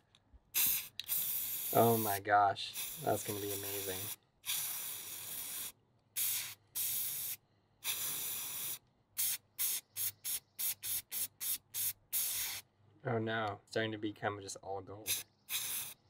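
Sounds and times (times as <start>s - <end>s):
spray paint cans hissing: 0.5s - 12.6s, 15.0s - 16.0s.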